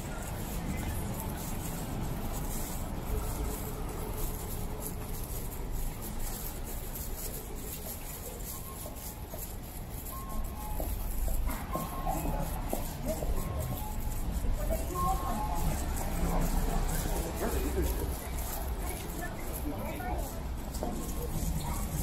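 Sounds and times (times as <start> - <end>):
traffic rumble on wet street: 0.0 - 22.0.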